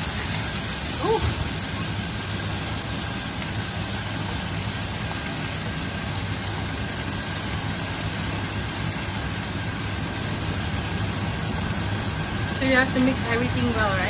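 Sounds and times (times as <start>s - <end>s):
wok cooking hum and hiss: 0.0s - 14.0s.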